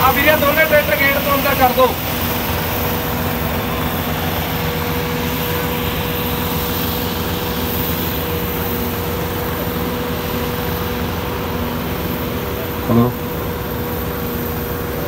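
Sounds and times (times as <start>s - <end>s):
tractor diesel engines running: 0.0s - 15.0s.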